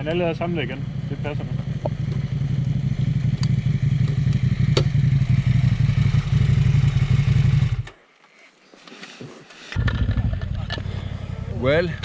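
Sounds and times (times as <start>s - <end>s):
motorcycle engine running: 0.0s - 7.9s, 9.8s - 12.0s.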